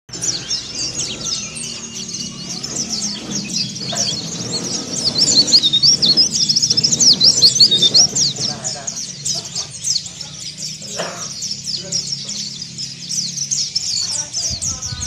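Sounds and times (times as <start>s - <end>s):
bird twittering high chirps: 0.1s - 15.0s.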